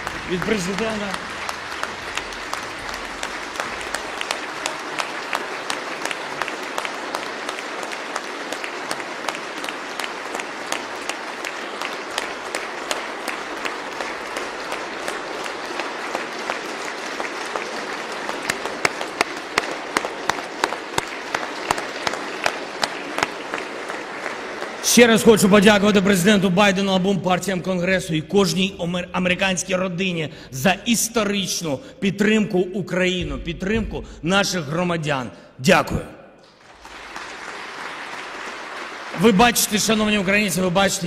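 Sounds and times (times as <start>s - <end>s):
rhythmic clapping: 0.0s - 29.8s, 36.4s - 41.0s
crowd applauding: 0.0s - 31.4s, 36.4s - 41.0s.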